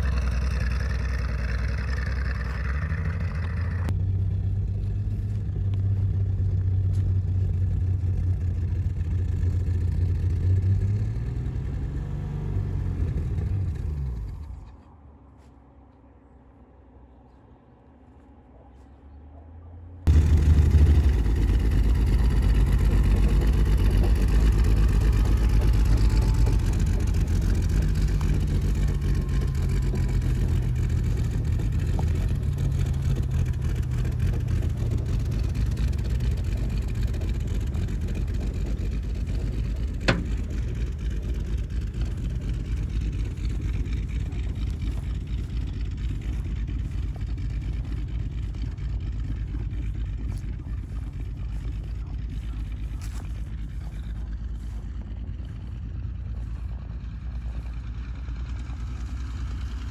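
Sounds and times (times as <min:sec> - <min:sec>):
engine rumbling: 0:00.0 - 0:59.9.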